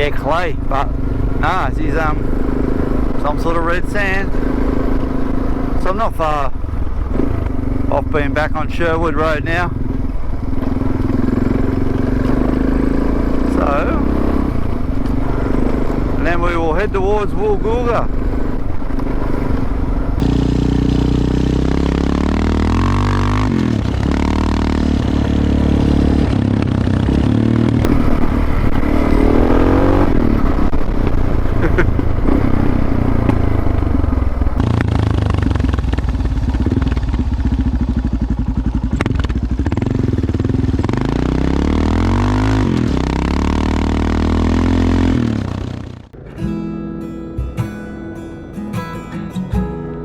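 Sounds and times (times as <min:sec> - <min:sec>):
motorcycle engine accelerating: 0:00.0 - 0:46.8.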